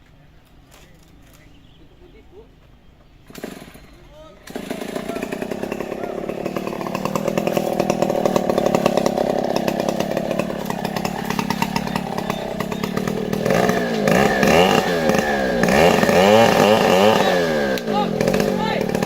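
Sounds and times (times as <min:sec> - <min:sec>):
chainsaw engine revving: 0:03.2 - 0:19.0.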